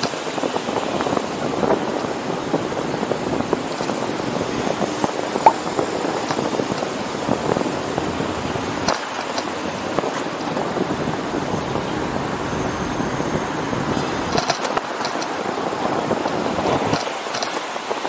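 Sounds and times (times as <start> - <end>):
wind rushing: 0.0 - 17.0
road noise: 0.0 - 18.0.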